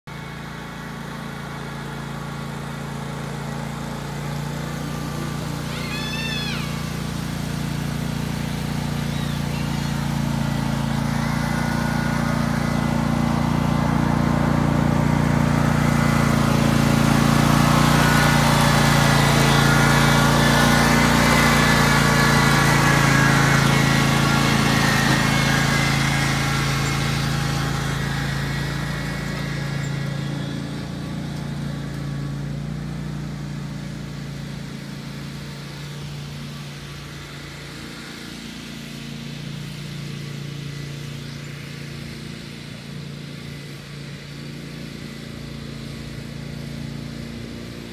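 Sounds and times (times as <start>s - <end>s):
riding mower engine passing: 0.0s - 47.9s.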